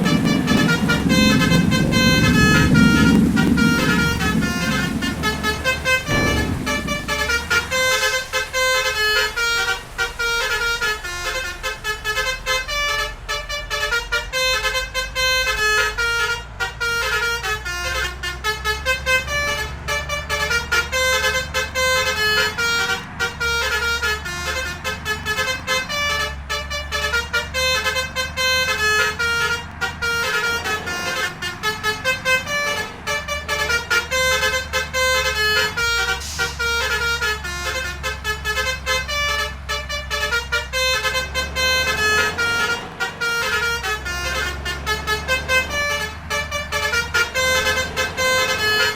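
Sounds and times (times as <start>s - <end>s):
low engine rumble: 0.0s - 48.9s
multi-tone horn melody: 0.0s - 48.9s.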